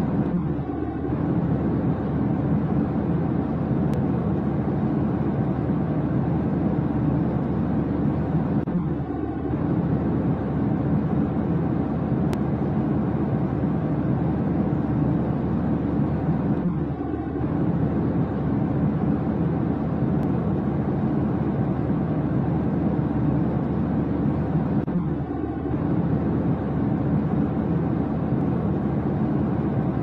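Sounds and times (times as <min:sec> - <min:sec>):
jet airliner cabin rumble: 0:00.0 - 0:30.0.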